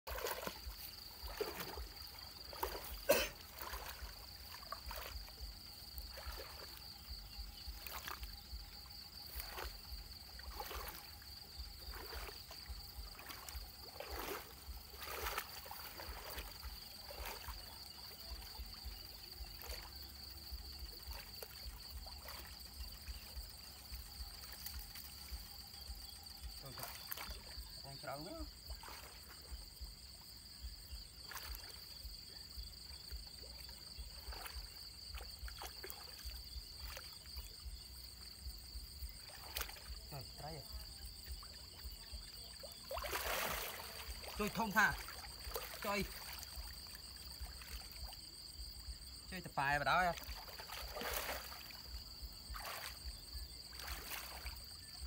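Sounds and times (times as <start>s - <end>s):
water sloshing and swishing: 0.0s - 55.0s.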